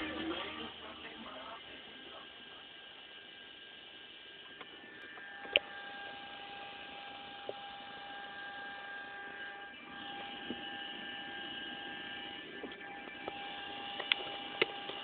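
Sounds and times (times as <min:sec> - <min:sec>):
speaker electrical whine: 0:00.0 - 0:15.0.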